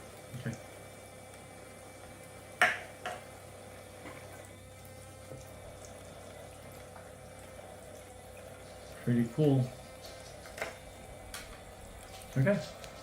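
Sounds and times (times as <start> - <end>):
small electric pump running: 0.0 - 13.0
water trickling from faucet: 0.0 - 13.0.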